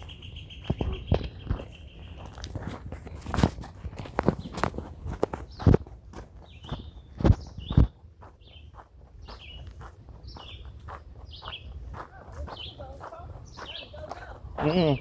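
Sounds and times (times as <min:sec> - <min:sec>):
songbird chirping: 0:00.0 - 0:03.4, 0:04.0 - 0:15.0
footsteps on gravel: 0:00.0 - 0:15.0.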